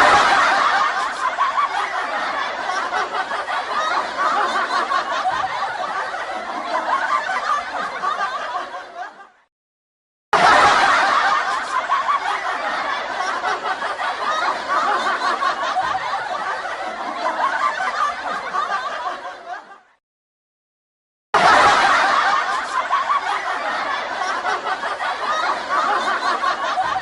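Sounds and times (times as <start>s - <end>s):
studio audience laughter: 0.0s - 9.5s, 10.4s - 20.0s, 21.4s - 27.0s.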